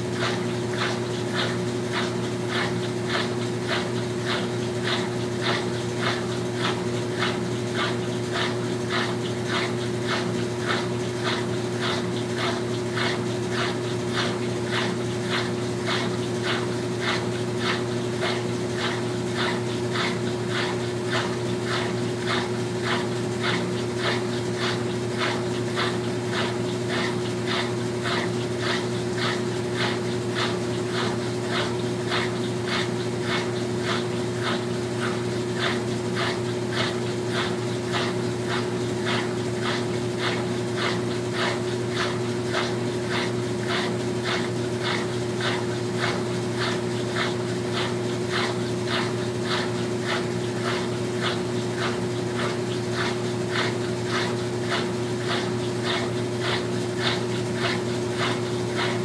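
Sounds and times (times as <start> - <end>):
washing machine motor hum: 0.0 - 59.0
rhythmic swishing of water: 0.1 - 59.0.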